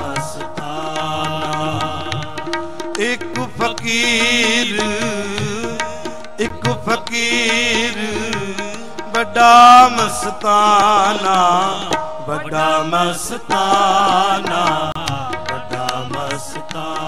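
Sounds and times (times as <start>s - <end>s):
harmonium tones: 0.0s - 17.0s
tabla strokes: 0.0s - 17.0s
voices singing devotional song: 0.0s - 17.0s.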